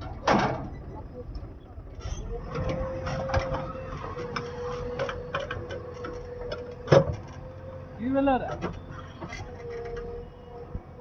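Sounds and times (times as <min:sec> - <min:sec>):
earth-moving machinery whine: 0:00.0 - 0:11.0.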